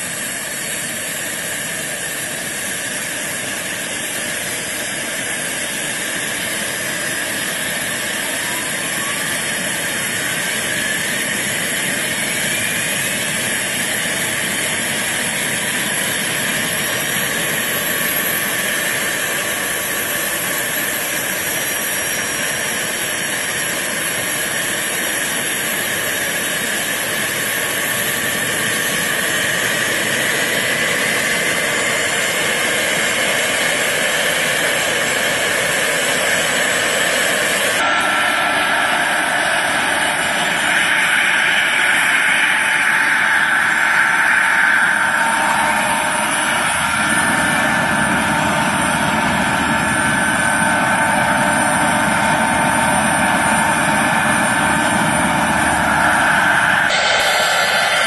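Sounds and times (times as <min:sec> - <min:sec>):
model helicopter rotors whining: 0:00.0 - 0:58.0.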